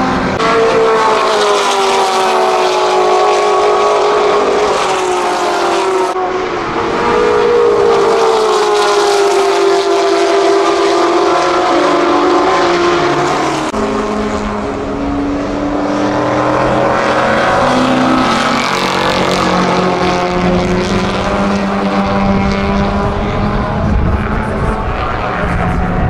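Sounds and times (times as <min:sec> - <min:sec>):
racing car engines at full throttle: 0:00.0 - 0:26.0.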